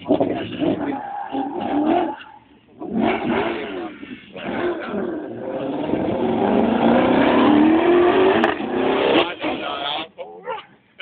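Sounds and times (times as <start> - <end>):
race car engine revving: 0.0 - 10.1.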